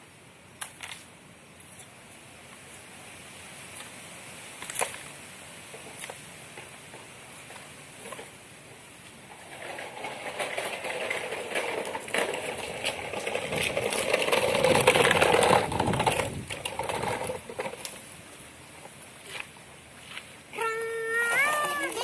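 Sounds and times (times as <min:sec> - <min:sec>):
sand scraping with toy truck: 0:03.6 - 0:22.0.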